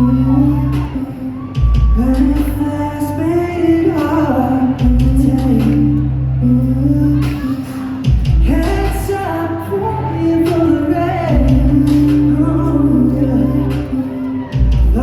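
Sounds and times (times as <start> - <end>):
heavy bass: 0.0 - 15.0
live pop band music: 0.0 - 15.0
people singing: 0.0 - 15.0.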